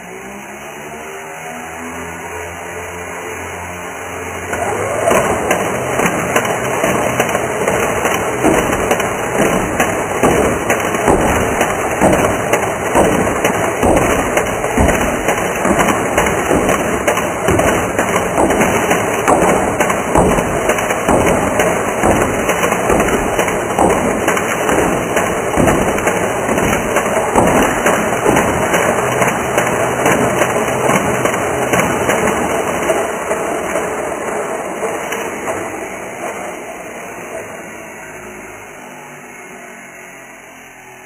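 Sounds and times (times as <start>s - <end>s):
toy dart gun firing rapidly: 4.3s - 37.7s.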